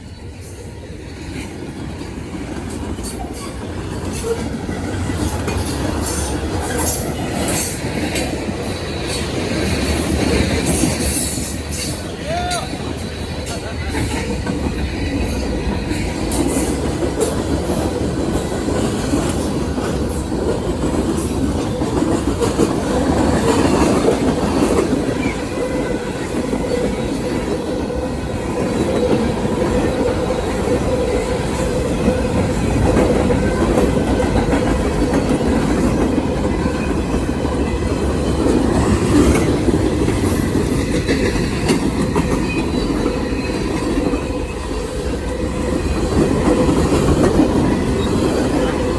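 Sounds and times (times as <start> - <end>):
train cars rumbling past: 0.0 - 48.9.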